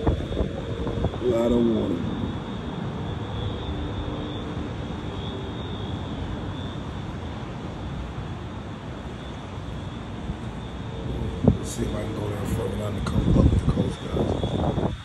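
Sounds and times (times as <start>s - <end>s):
distant city traffic: 0.0s - 15.0s
wind: 0.0s - 15.0s.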